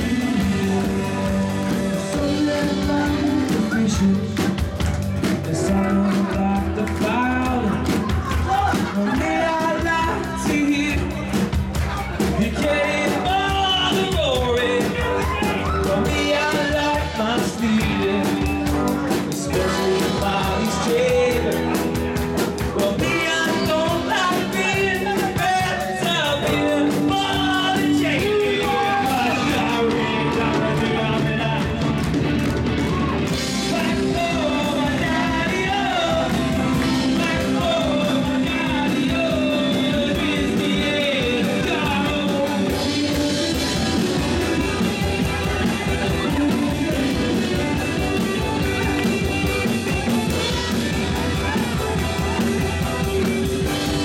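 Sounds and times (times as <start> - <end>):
guitar chords: 0.0 - 54.0
person singing lead vocal: 0.0 - 54.0
steady beat: 0.0 - 54.0.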